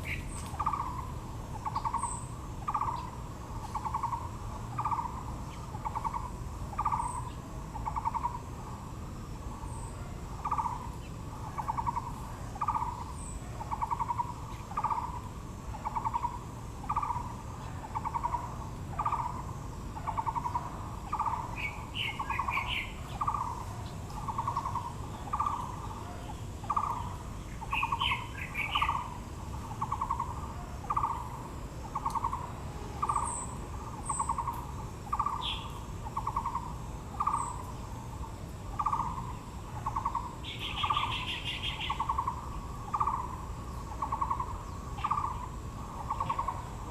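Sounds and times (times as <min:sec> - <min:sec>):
higher bird chirping: 0:00.0 - 0:08.5, 0:09.6 - 0:46.9.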